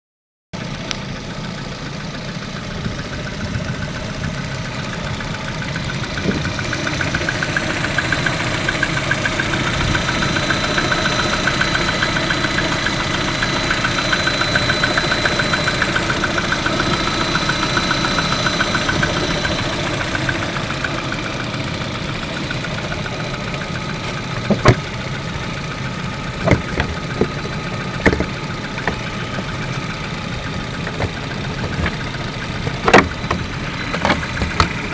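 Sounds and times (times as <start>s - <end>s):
car engine idling with knocking: 0.6s - 34.9s.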